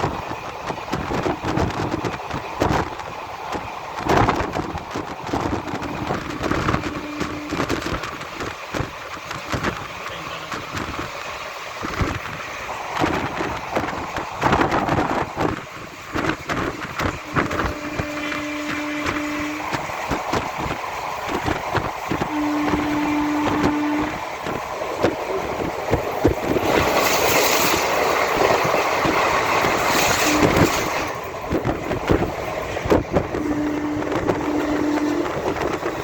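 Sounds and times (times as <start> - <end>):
train wheels clattering: 0.0 - 36.0.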